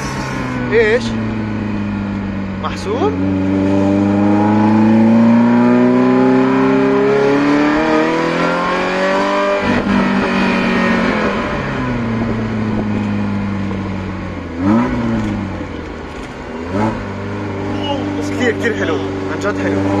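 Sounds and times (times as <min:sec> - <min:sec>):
car engine revving: 0:00.0 - 0:20.0
gear change: 0:00.0 - 0:20.0.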